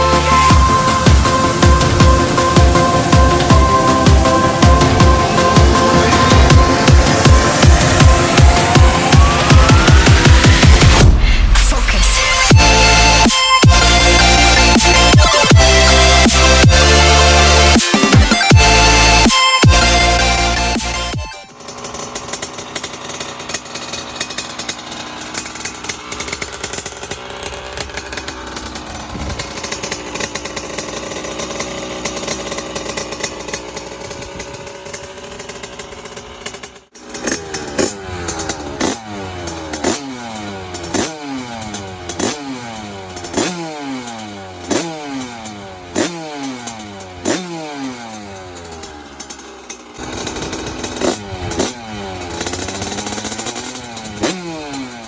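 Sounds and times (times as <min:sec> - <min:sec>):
motorcycle engine revving: 0:00.0 - 0:55.0
motorcycle engine running: 0:00.0 - 0:55.0.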